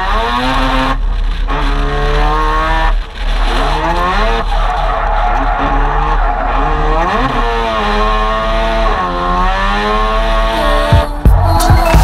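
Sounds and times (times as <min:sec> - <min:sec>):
rotary engine revving hard: 0:00.0 - 0:11.0.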